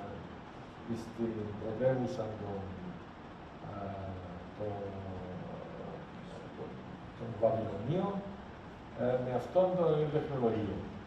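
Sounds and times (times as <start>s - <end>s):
steady background hiss: 0.0s - 11.0s
man speaking indistinctly: 0.9s - 3.0s, 3.6s - 8.4s, 9.0s - 11.0s.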